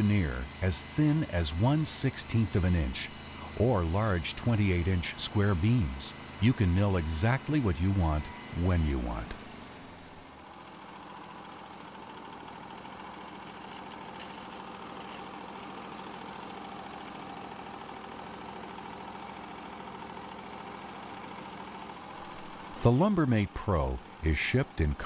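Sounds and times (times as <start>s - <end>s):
sawmill engine running steadily: 0.0s - 25.0s.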